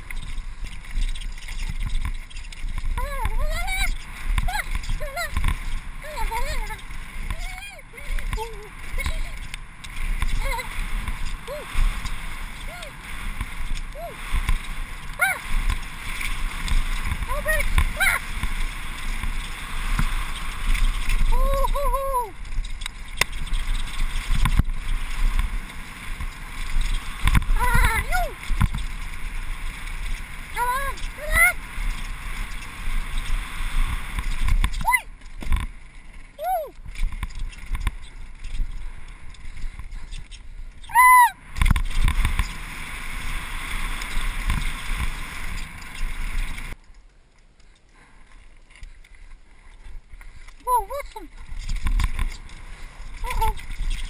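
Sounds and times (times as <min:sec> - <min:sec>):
wind noise on helmet camera: 0:00.0 - 0:46.8, 0:48.7 - 0:54.0
faint rustle: 0:00.0 - 0:54.0.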